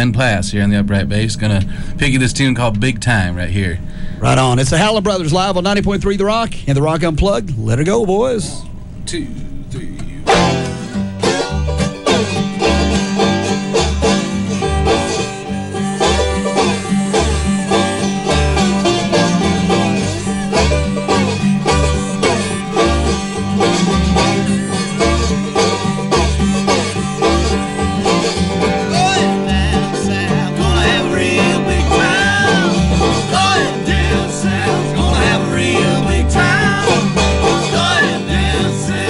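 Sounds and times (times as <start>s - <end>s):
banjo picking rolls: 0.0s - 39.0s
strummed acoustic guitar: 0.0s - 39.0s
upright bass plucking: 0.0s - 39.0s.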